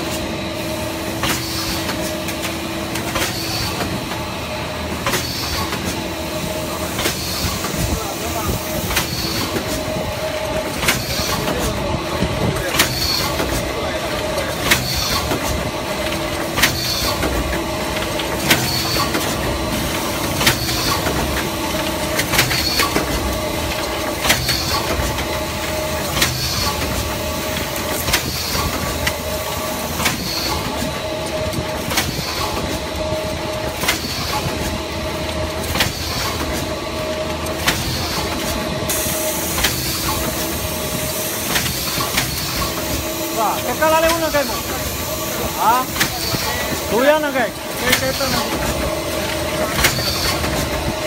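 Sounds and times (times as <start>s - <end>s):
machine clacking with hiss: 0.0s - 51.0s
steady machine hum: 0.0s - 51.0s.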